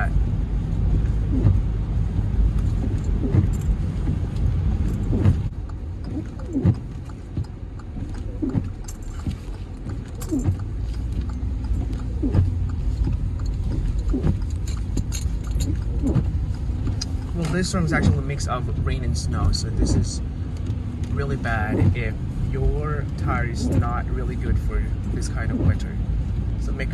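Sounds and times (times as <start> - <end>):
car engine rumble: 0.0 - 26.9
tyres on wet icy road: 0.0 - 26.9.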